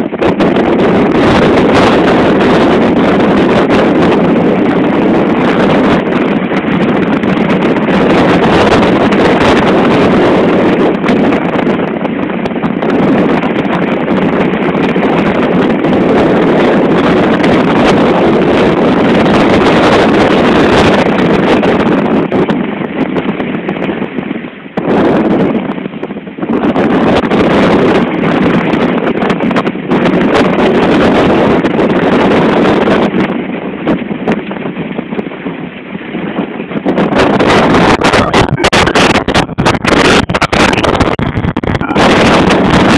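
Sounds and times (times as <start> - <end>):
storm wind buffeting microphone: 0.0 - 42.9
water breaking along hull: 0.0 - 42.9.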